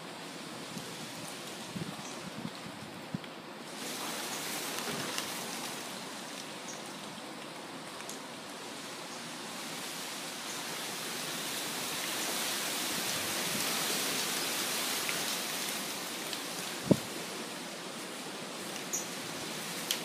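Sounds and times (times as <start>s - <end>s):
wind rustling leaves: 0.0s - 20.0s.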